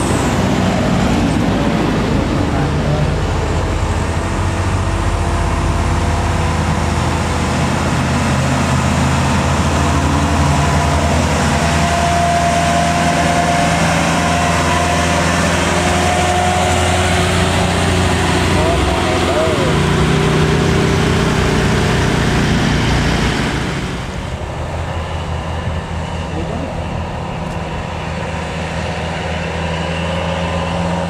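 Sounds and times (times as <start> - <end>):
diesel truck engine pulling uphill: 0.0 - 31.0.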